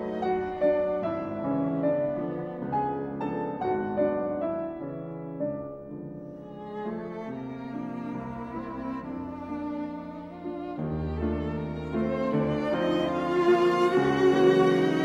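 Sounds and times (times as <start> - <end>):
slow piano and strings music: 0.0 - 15.0.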